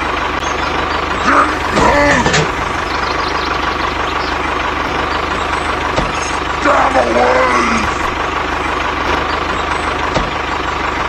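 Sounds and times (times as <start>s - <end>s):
tractor engine chugging: 0.0s - 11.0s.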